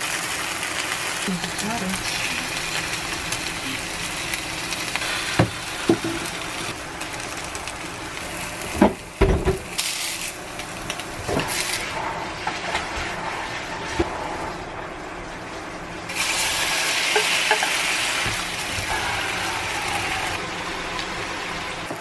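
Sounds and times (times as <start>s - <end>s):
meat sizzling in oil: 0.0s - 11.9s, 16.1s - 22.0s.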